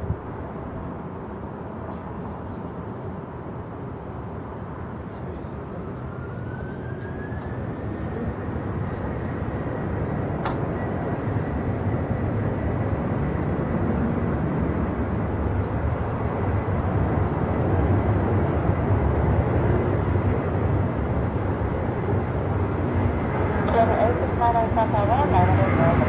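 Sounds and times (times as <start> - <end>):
jet engine rumble: 0.0 - 26.0
jet engine whine: 0.0 - 26.0.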